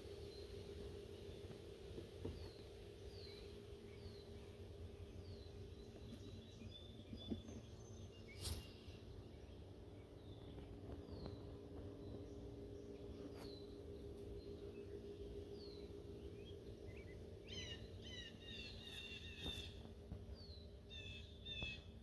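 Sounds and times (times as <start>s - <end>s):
honeybees humming: 0.0s - 22.0s
bird chirping: 2.2s - 22.0s.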